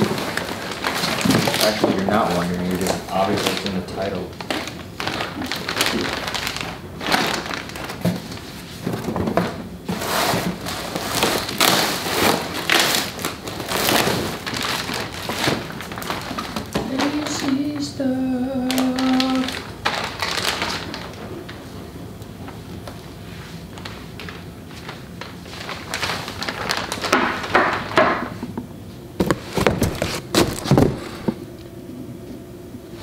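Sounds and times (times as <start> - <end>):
plastic packaging crinkling: 0.0 - 28.4, 29.2 - 31.4.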